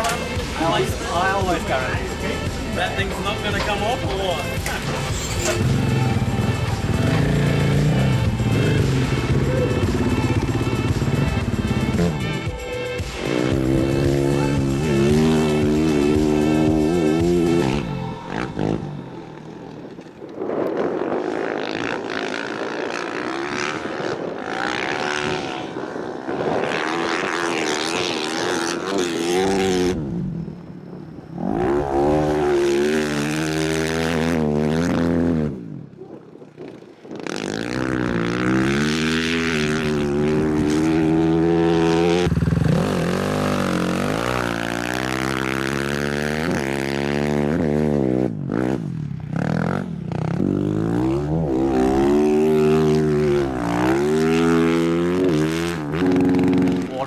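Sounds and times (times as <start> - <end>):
motorcycle engine revving: 0.0 - 36.0, 36.6 - 57.0.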